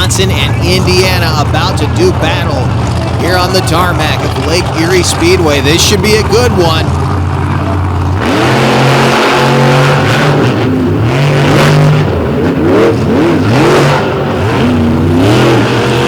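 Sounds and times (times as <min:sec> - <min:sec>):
monster truck engines revving: 0:00.0 - 0:16.0.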